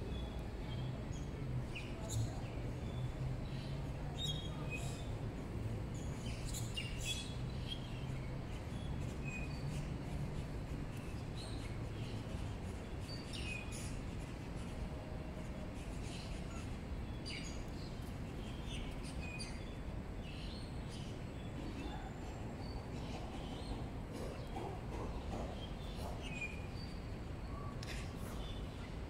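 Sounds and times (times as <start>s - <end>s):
low outdoor hum: 0.0s - 29.0s.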